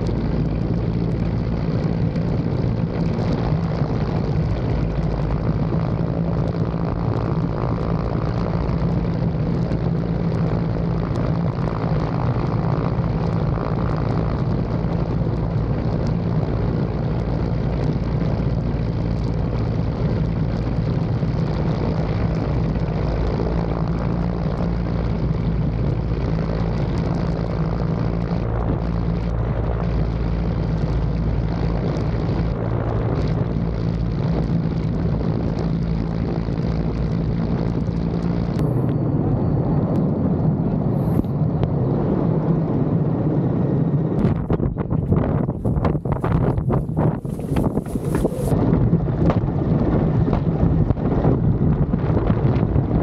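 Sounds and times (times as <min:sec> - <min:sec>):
helicopter rotor and engine: 0:00.0 - 0:53.0.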